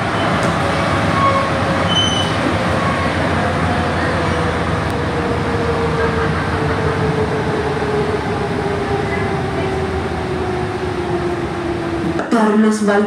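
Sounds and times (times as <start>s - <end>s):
metro train running at speed: 0.0s - 13.0s.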